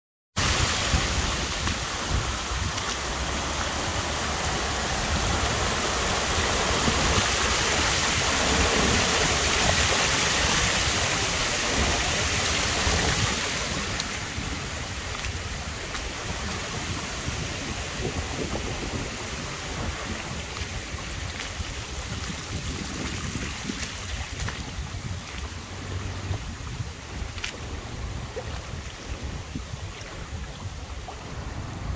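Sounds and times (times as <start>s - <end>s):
water rushing over stone weir: 0.4s - 31.9s.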